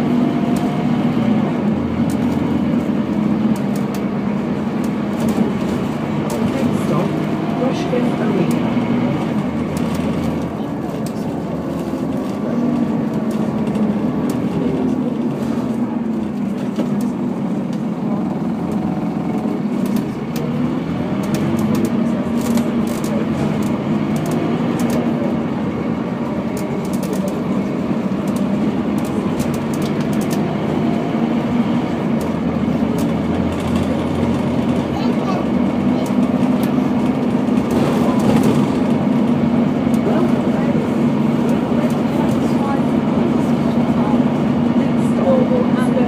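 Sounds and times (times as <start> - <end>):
bus engine and road drone: 0.0 - 46.0.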